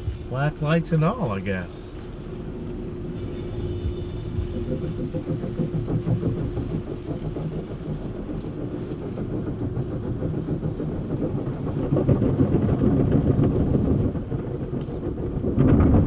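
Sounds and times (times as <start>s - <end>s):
car wash machinery rumbling: 0.0s - 16.0s.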